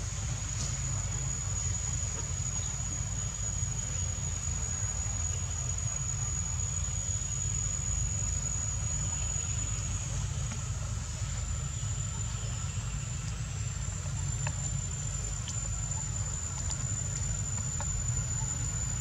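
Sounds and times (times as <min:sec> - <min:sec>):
insects calling: 0:00.0 - 0:19.0.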